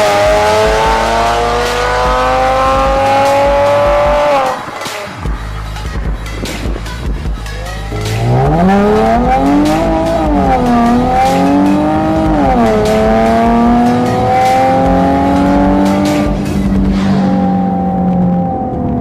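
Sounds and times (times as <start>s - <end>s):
car exhaust accelerating: 0.0s - 19.0s.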